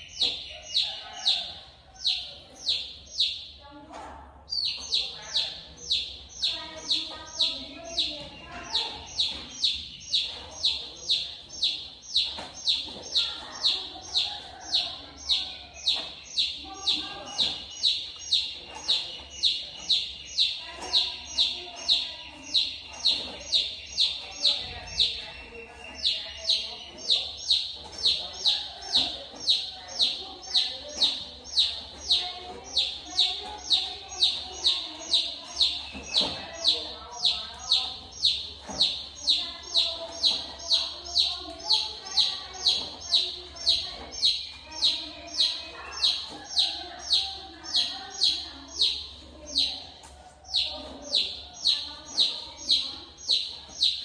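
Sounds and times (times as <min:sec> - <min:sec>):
bird chirping: 0:00.0 - 0:03.8, 0:04.4 - 0:54.0.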